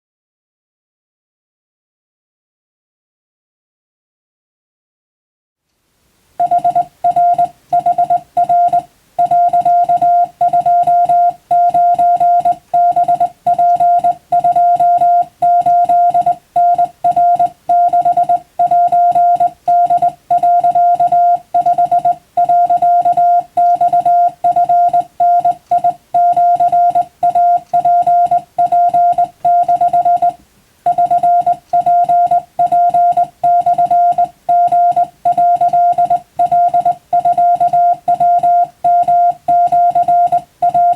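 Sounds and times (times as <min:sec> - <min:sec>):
morse code beeps: 0:06.4 - 0:40.9.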